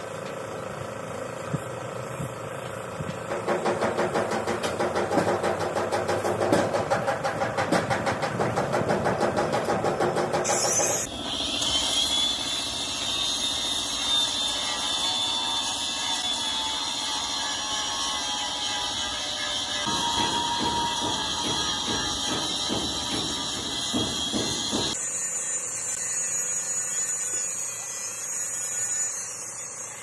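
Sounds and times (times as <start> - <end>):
air compressor pulsing: 0.0 - 30.0.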